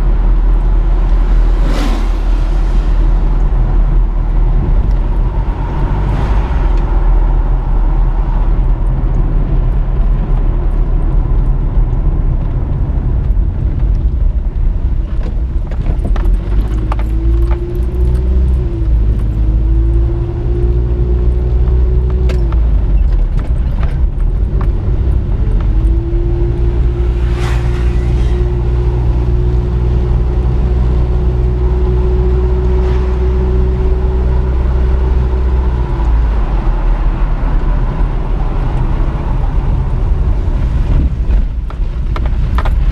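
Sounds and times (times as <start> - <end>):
low rumble: 0.0 - 42.9.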